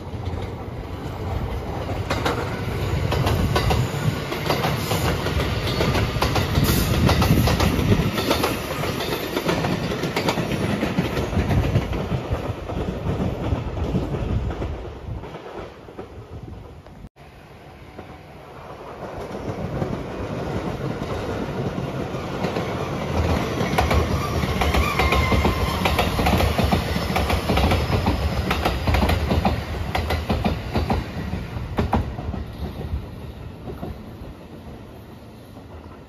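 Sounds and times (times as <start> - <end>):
electric train passing: 0.0 - 36.0.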